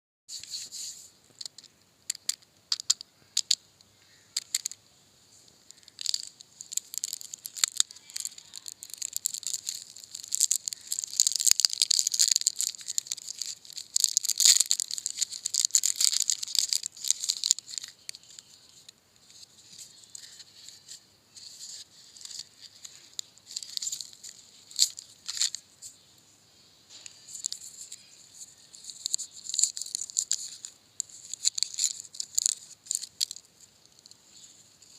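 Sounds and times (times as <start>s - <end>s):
plastic packaging crinkling: 5.7s - 26.0s, 26.9s - 34.9s.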